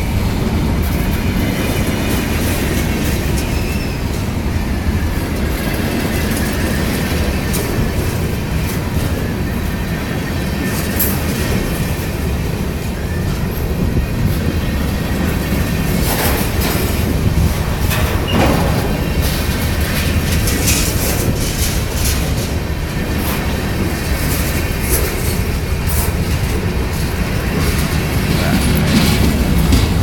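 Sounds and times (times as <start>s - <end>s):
freight train rumbling: 0.0s - 30.0s
wheels clattering over rail joints: 0.0s - 30.0s.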